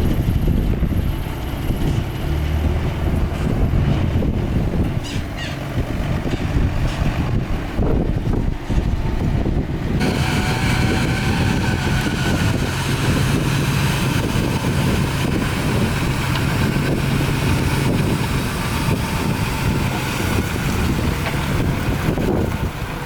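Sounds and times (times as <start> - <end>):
heavy diesel machinery running: 0.0 - 23.0
wind on microphone: 0.0 - 23.0.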